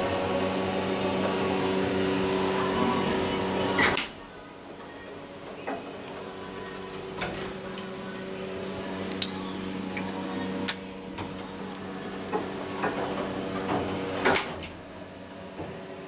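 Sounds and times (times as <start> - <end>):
elevator hum: 0.0 - 16.0
elevator doors sliding shut: 0.9 - 15.0.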